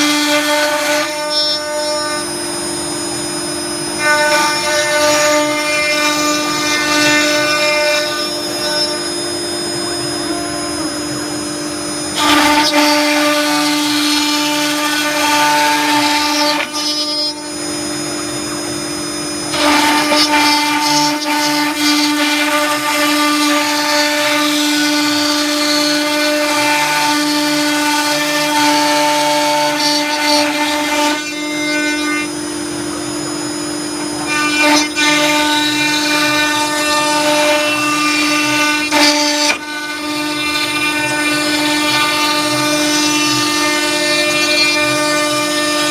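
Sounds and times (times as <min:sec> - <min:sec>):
router bit cutting sheet: 0:00.0 - 0:45.9
router spindle whine: 0:00.0 - 0:45.9.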